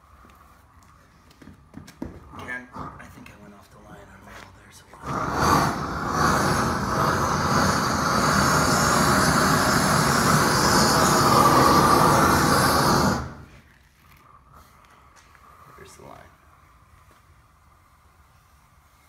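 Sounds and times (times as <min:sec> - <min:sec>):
roofing torch burning: 0:00.0 - 0:19.0.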